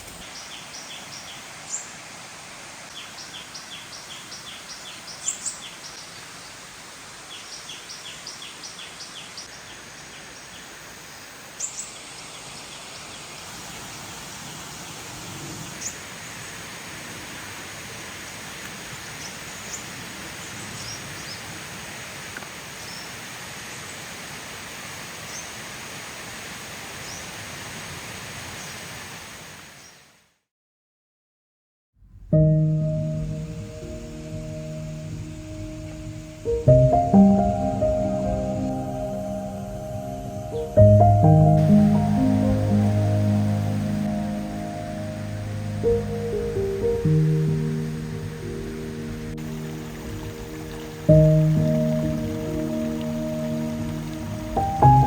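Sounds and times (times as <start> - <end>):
steady background hiss: 0.0 - 30.3, 32.1 - 55.0.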